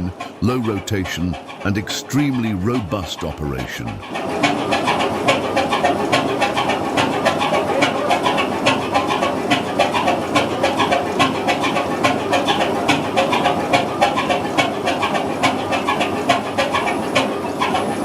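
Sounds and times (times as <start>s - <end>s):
stationary diesel engine clattering: 0.0s - 18.0s.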